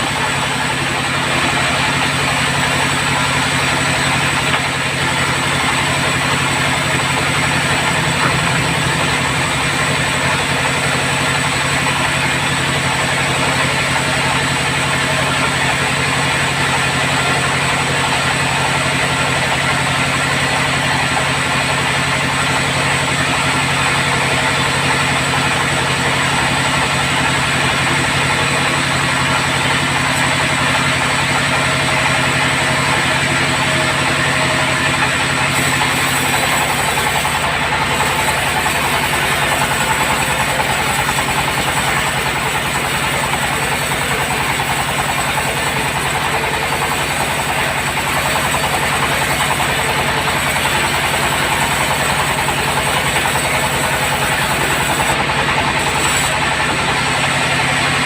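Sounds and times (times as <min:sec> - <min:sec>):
bandsaw running: 0:00.0 - 0:58.0.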